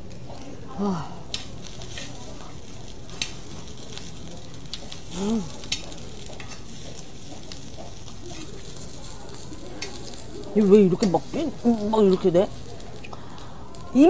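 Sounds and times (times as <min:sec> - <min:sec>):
food sizzling on iron pan: 0:00.0 - 0:14.0.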